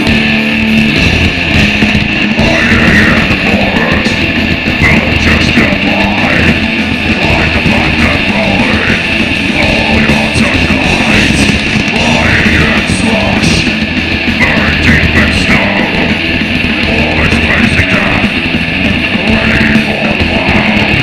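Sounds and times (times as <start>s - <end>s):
death metal band playing live: 0.0s - 21.0s.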